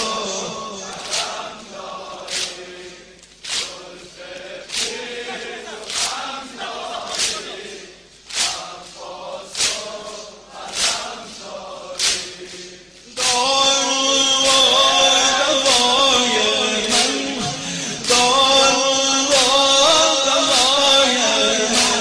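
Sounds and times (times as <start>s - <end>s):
crowd of men chanting: 0.0s - 3.1s, 3.7s - 22.0s
rhythmic chest-beating slaps: 0.0s - 22.0s.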